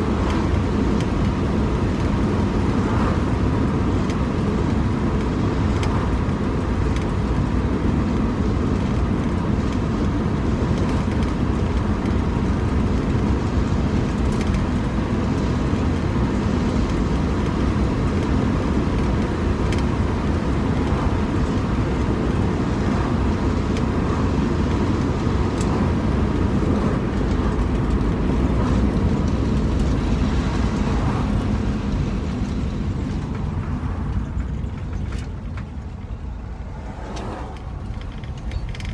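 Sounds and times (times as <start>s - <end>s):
car engine droning while driving: 0.0s - 38.9s
road and wind noise: 0.0s - 38.9s.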